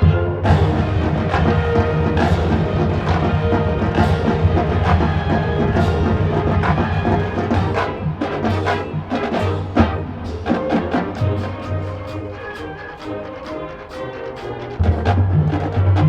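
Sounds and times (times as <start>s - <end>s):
marching band playing: 0.0s - 16.0s
percussion hits: 0.0s - 16.0s.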